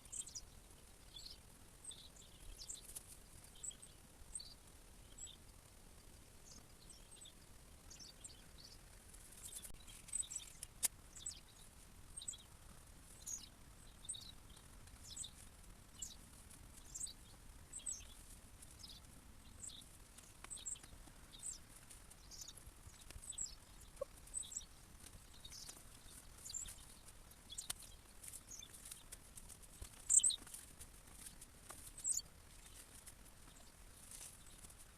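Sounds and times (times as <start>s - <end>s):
faint birdsong chirps: 0.0s - 34.9s.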